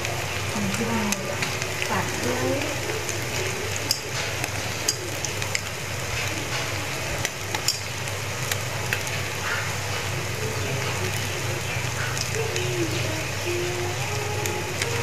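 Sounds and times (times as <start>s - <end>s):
fritters sizzling in hot oil: 0.0s - 15.0s.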